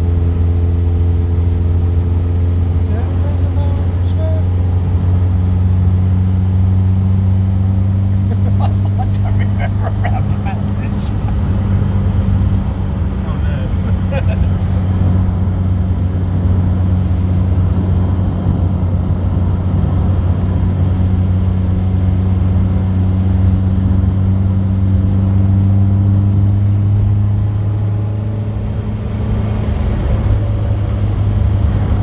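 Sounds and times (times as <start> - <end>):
car engine droning: 0.0 - 32.0
road and tyre rumble: 0.0 - 32.0.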